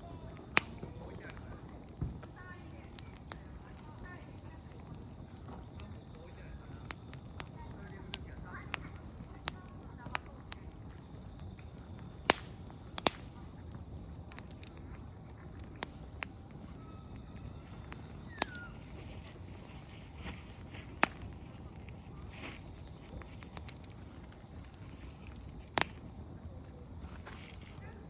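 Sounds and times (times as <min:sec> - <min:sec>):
firewood snapping and popping: 0:00.0 - 0:28.0
low fire hiss: 0:00.0 - 0:28.0.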